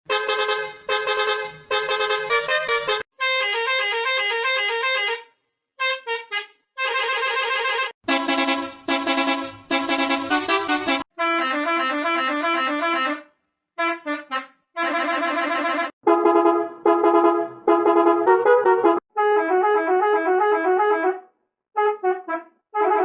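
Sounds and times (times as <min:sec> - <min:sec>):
musical vehicle horn melodies: 0:00.1 - 0:21.2.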